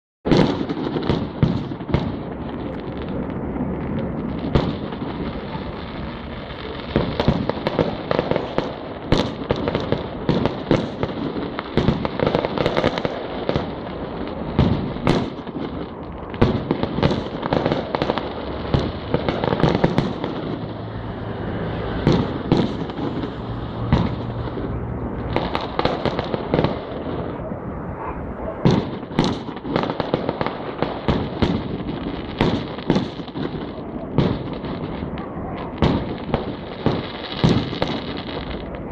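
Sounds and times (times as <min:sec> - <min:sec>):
fireworks bangs: 0:00.3 - 0:38.9
fireworks crackle: 0:00.3 - 0:38.9.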